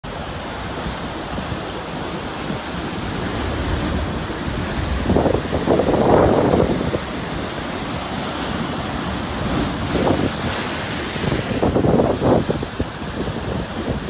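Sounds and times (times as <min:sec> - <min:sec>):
waves breaking on shore: 0:00.0 - 0:14.0
wind buffeting microphone: 0:00.2 - 0:14.0.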